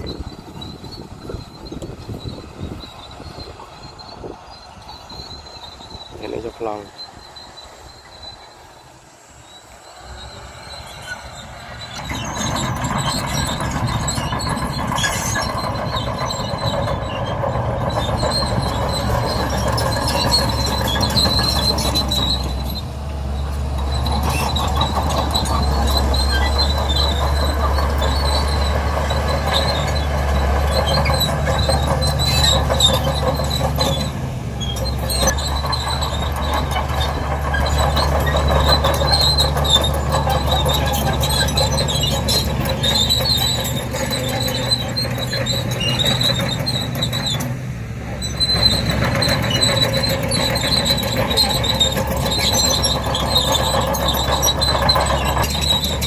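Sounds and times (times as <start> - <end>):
bulldozer diesel engine: 0.0 - 56.0
steel tracks squealing: 0.0 - 56.0.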